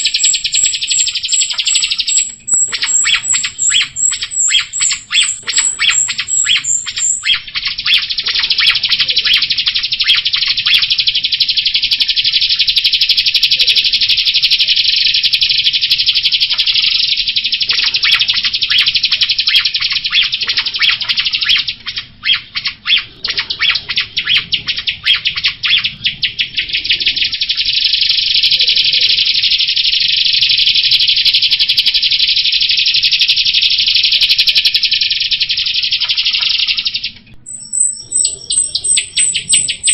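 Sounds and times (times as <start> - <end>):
starling chattering song: 0.0 - 39.9.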